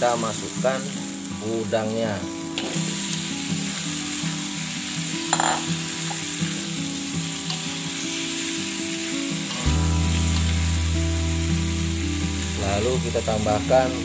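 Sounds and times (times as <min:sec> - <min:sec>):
shrimp sizzling in hot oil: 0:00.0 - 0:14.0.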